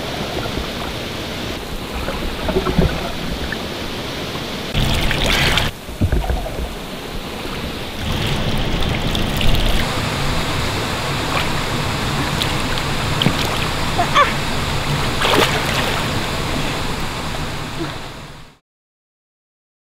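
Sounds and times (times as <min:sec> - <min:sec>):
water sloshing around person wading: 0:00.0 - 0:18.2
loud rush of water: 0:00.0 - 0:18.6
steady low rumble: 0:00.0 - 0:18.6.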